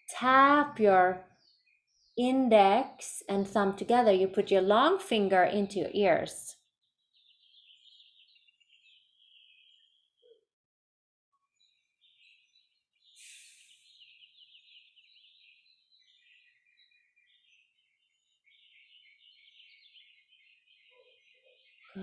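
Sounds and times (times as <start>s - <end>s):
songbirds chirping: 0.0s - 10.4s, 11.4s - 22.0s.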